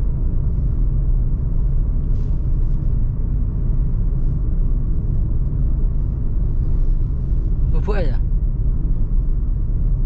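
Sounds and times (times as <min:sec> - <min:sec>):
road and engine rumble in car: 0:00.0 - 0:10.0.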